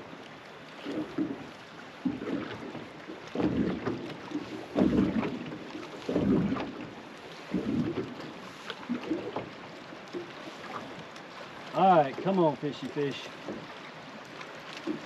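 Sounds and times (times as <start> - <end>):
waves slapping boat hull: 0.0 - 15.0.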